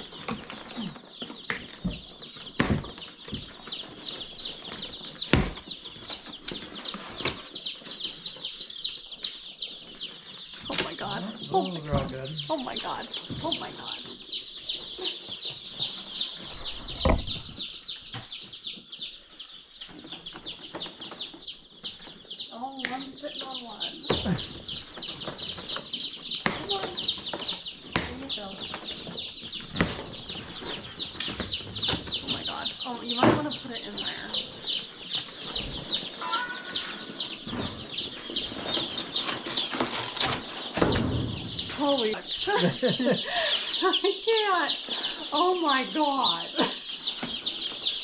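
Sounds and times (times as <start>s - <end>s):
baby chicks peeping: 0.0s - 48.0s.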